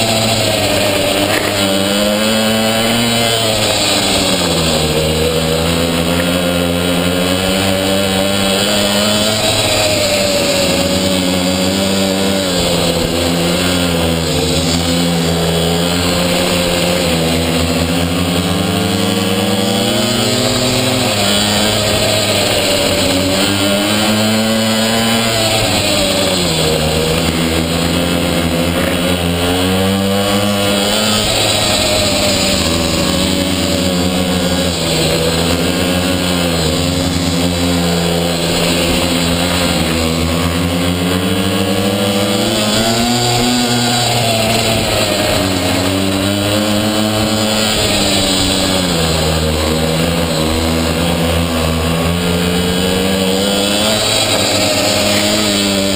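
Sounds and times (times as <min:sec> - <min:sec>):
small two-stroke engine revving: 0:00.0 - 0:55.9.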